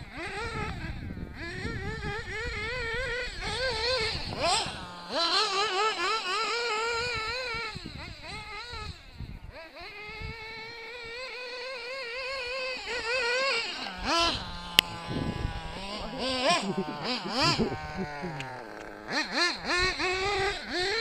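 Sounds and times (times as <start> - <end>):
model car engine screaming: 0.0 - 21.0.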